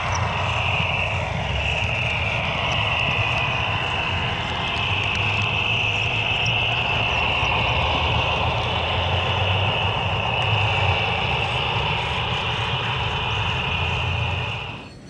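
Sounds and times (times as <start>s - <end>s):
low engine drone: 0.0s - 15.0s
model locomotive whine: 0.0s - 15.0s.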